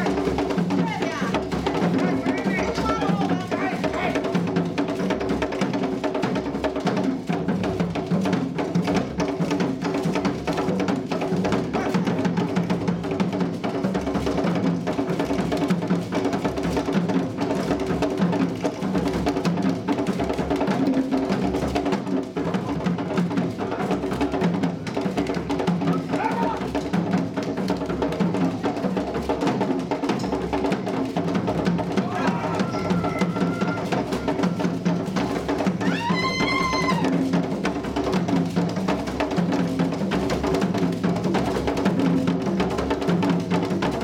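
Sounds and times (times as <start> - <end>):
percussion-driven music: 0.0 - 44.0.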